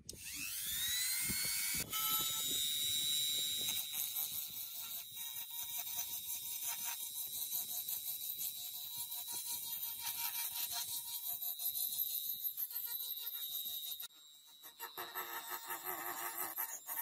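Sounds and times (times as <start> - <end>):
die grinder whining: 0.0 - 17.0.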